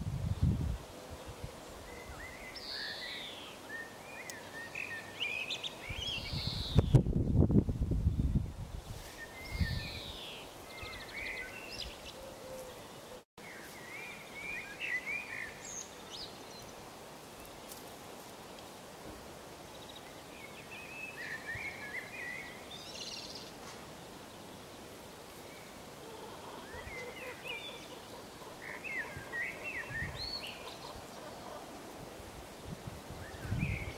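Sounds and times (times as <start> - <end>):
outdoor background hiss: 0.0 - 33.9
small birds twittering: 1.2 - 7.2, 8.1 - 17.8, 19.6 - 31.8.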